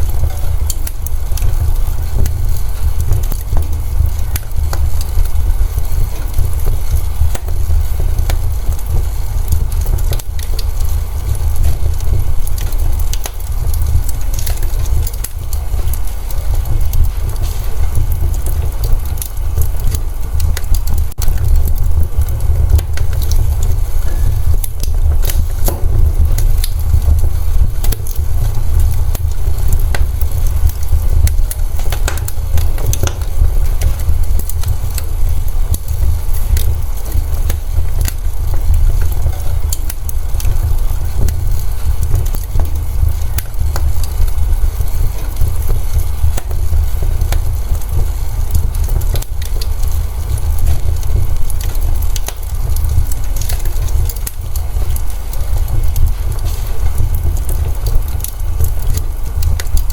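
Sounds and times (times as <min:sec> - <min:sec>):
low fire rumble: 0:00.0 - 0:59.9
sharp pops and snaps: 0:00.0 - 0:59.9
wood fire crackling: 0:00.0 - 0:59.9.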